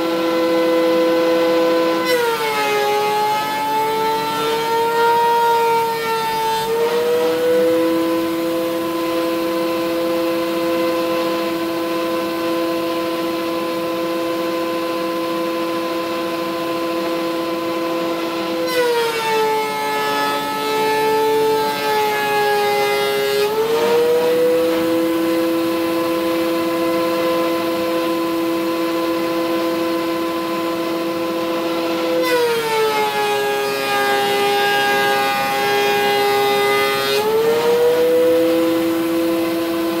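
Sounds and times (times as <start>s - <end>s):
router motor whining: 0.0s - 40.0s.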